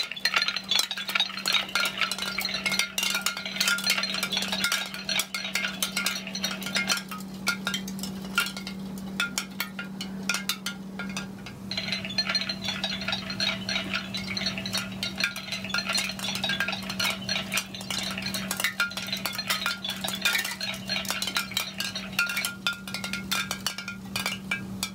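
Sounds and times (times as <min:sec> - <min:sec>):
bone wind chime clinking: 0:00.0 - 0:24.9
steady low hum: 0:00.0 - 0:24.9.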